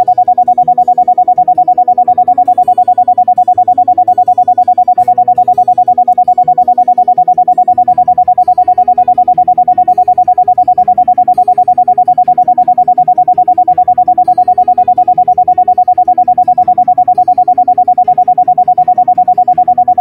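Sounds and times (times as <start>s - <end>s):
pulsing steady tone: 0.0s - 20.0s.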